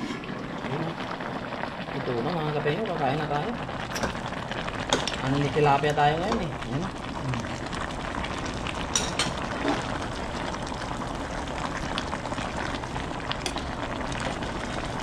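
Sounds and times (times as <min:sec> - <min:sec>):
soup boiling and bubbling: 0:00.0 - 0:15.0.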